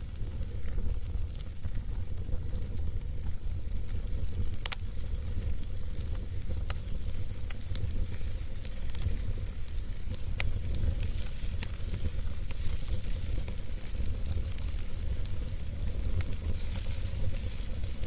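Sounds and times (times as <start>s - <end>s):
fire rumbling: 0.0s - 18.0s
logs crackling and popping: 0.0s - 18.0s.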